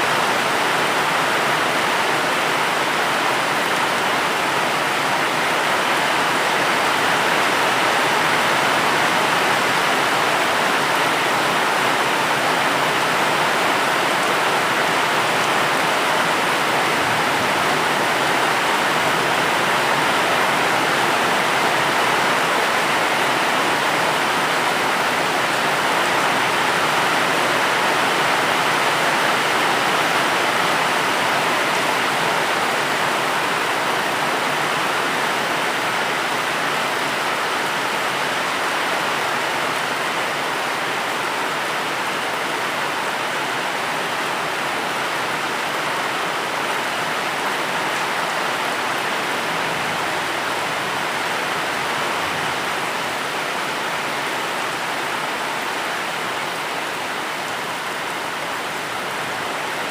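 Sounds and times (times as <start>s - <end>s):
steady dense rain: 0.0s - 59.9s.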